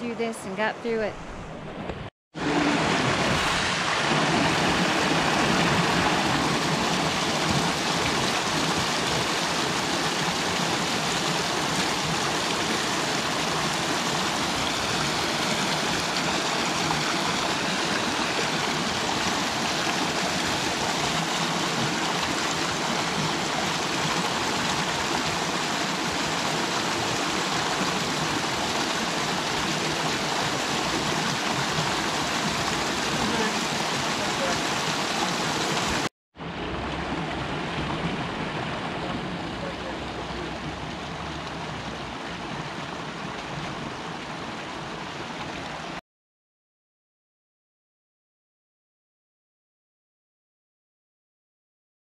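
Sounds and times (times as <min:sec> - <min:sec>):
creek rushing over rocks: 0:02.4 - 0:46.0.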